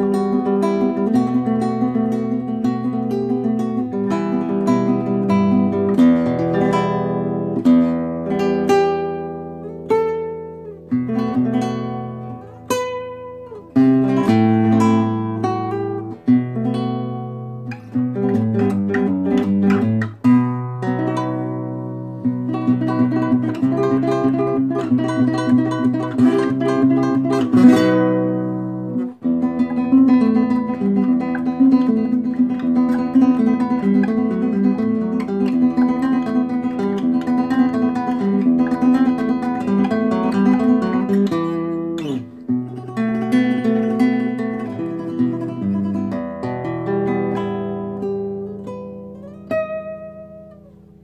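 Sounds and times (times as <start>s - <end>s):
classical guitar fingerstyle melody: 0.0s - 51.0s.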